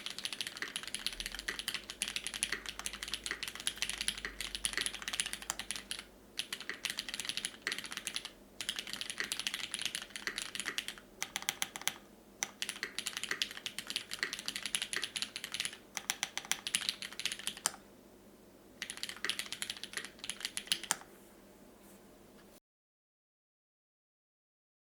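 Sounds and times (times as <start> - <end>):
mechanical keyboard typing: 0.0 - 17.8, 18.8 - 21.1.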